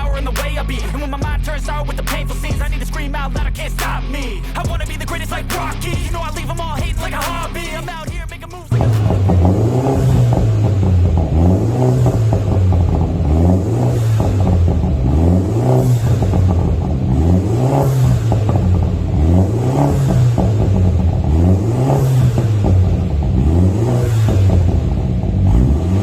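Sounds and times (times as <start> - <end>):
car exhaust revving: 0.0 - 26.0.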